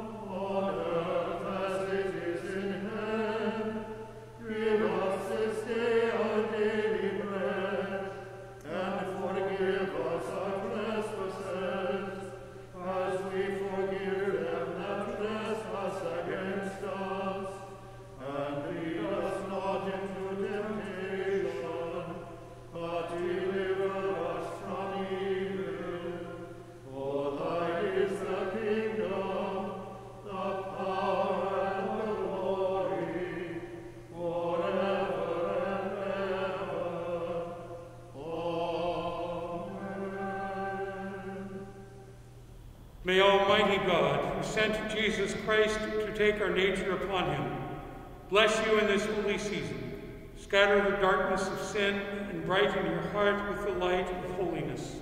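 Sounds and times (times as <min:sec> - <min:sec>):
choir singing chant: 0:00.0 - 0:42.0, 0:43.1 - 0:55.0.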